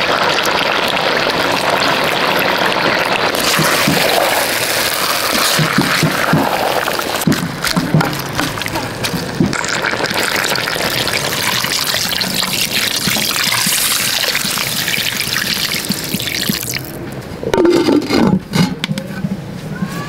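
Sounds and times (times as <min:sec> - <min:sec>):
water pouring and splashing on food: 0:00.0 - 0:17.0.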